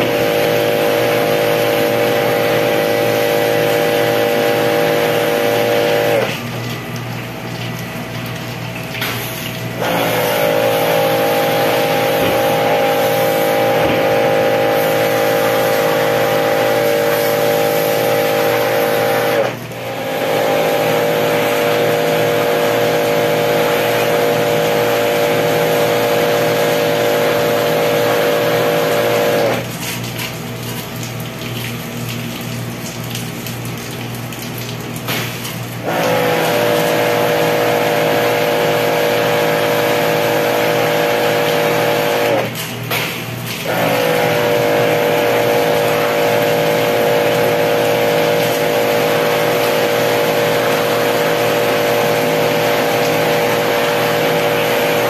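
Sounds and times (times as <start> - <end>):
pressure washer whine: 0.0 - 6.8, 8.9 - 30.1, 35.0 - 55.0.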